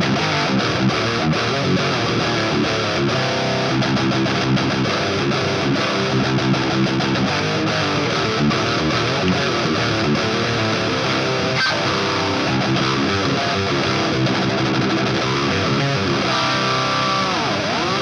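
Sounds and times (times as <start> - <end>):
distorted electric guitar riff: 0.0 - 18.0.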